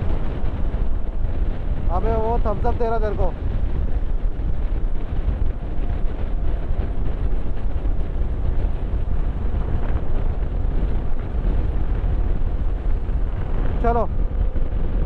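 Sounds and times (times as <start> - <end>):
motorcycle running noise: 0.0 - 15.0
wind buffeting microphone: 0.0 - 15.0.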